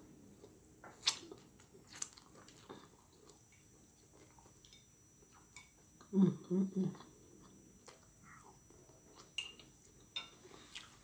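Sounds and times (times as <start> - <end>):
faint chewing: 0.4 - 11.0.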